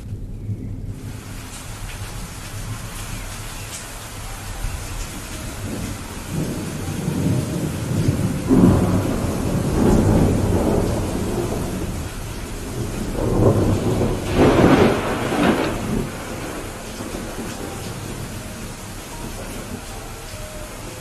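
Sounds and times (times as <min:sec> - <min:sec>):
steady rain: 0:00.0 - 0:21.0
rolling thunder: 0:00.1 - 0:21.0.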